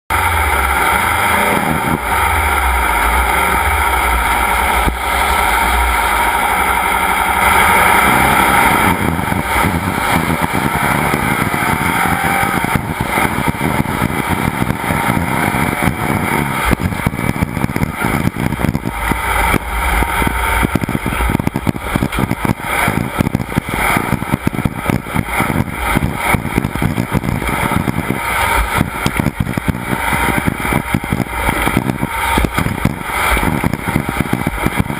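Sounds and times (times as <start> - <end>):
race vehicle engine revving: 0.1 - 34.9.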